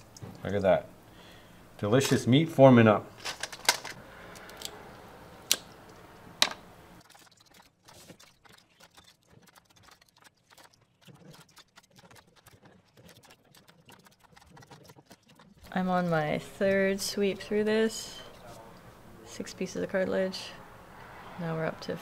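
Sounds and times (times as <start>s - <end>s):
background hum: 0.0s - 22.0s.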